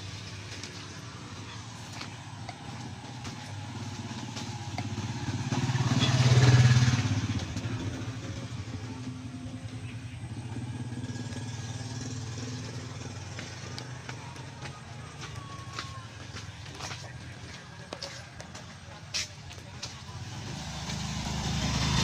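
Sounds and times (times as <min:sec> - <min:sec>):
faint engine: 0:00.0 - 0:22.0
motorcycle passing by: 0:00.0 - 0:22.0.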